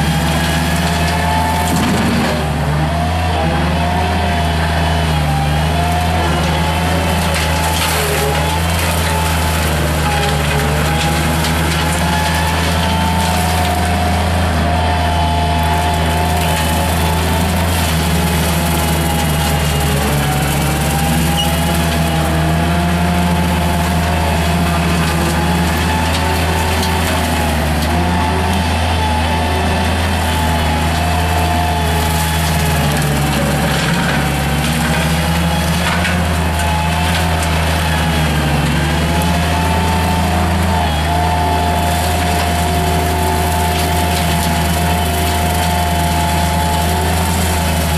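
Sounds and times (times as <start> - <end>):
hydraulic brush cutter whining: 0.0 - 47.9
loader engine running: 0.0 - 47.9.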